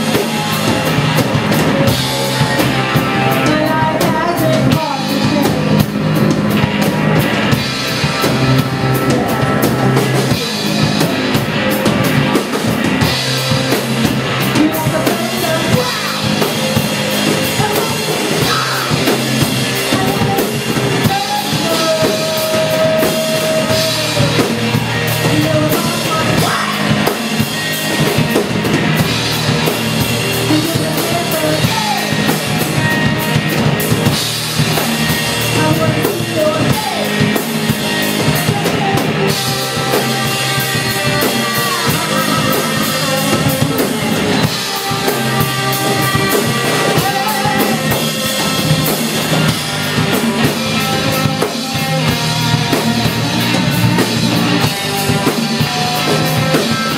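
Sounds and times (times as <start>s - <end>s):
electric guitar: 0.0s - 56.9s
live rock band playing: 0.0s - 56.9s
pounding drum kit: 0.0s - 56.9s.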